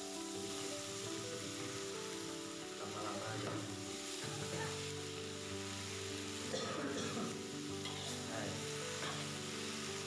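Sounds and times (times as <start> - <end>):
greens sizzling in a wok: 0.0 - 10.0.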